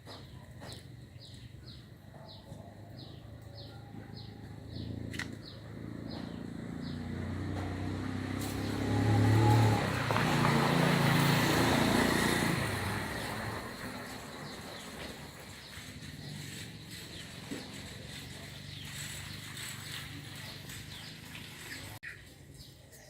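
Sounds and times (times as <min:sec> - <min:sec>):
vehicle engine passing by: 0:02.8 - 0:22.0.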